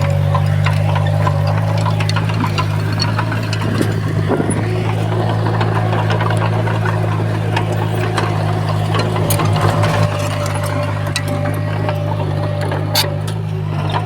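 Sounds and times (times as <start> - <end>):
bulldozer diesel engine running: 0.0 - 14.0
metal clanks and clicks: 0.0 - 14.0.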